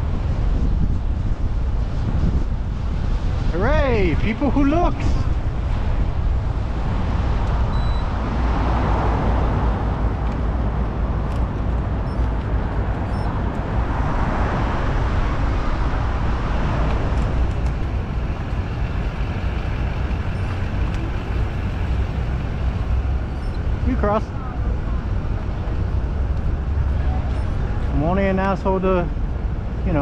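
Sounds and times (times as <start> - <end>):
city street traffic rumble: 0.0 - 30.0
motor vehicles passing: 5.0 - 30.0.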